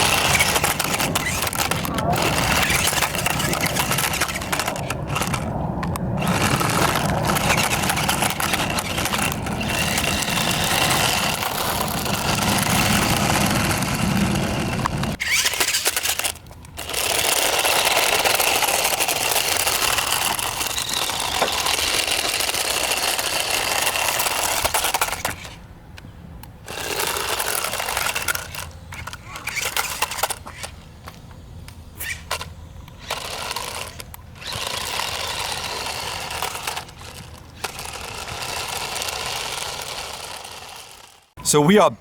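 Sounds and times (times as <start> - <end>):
electric motors whirring: 0.0 - 25.7, 26.4 - 41.4.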